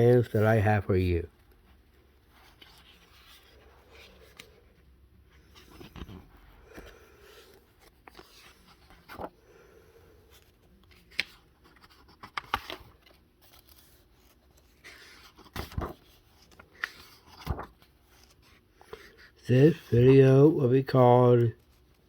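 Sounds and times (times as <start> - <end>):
paper pages rustling and flipping: 1.4 - 9.4, 10.3 - 22.0.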